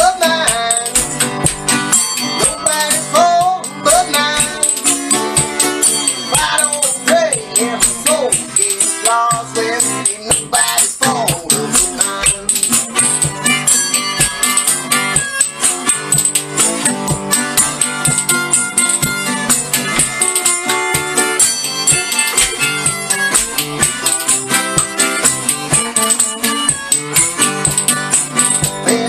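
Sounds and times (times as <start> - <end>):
song with shaker beat and guitar: 0.0 - 29.0.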